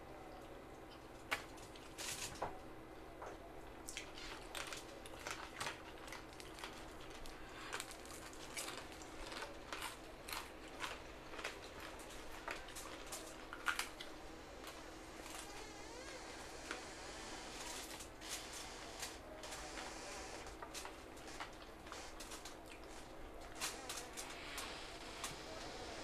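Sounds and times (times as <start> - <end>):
people chewing and lip smacking: 0.0 - 26.0
food crackling and crunching: 0.8 - 2.5, 3.6 - 26.0.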